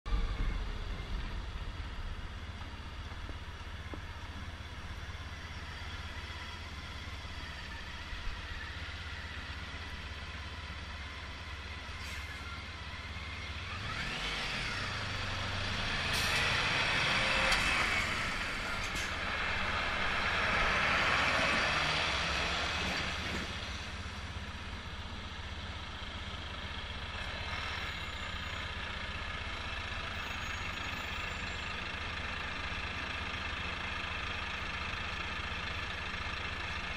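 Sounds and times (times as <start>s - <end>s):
traffic engine hum: 0.0s - 36.9s
vehicles passing: 0.1s - 36.9s.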